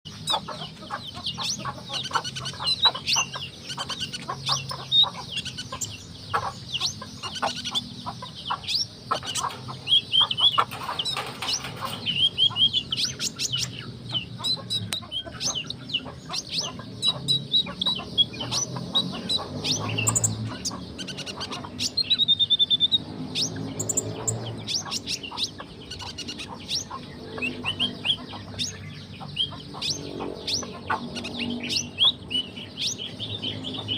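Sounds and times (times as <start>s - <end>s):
bird chirping and trilling: 0.1s - 33.9s.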